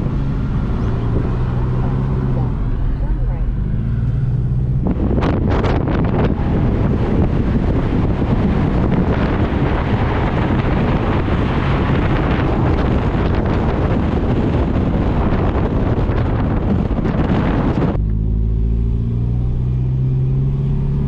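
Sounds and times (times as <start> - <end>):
car engine running: 0.0 - 21.0
wind and road noise: 0.0 - 21.0.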